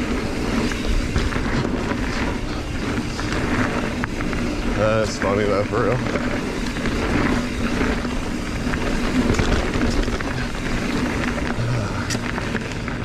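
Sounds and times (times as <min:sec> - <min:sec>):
bike tyres rumbling and rattling: 0:00.0 - 0:13.0.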